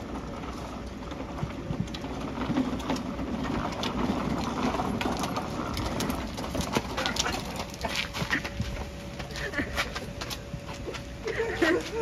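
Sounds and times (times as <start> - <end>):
small wheels rolling over asphalt: 0.0 - 12.0.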